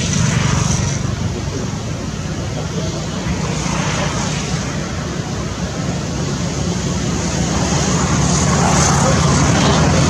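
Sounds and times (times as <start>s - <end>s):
engine drone: 0.0s - 10.0s.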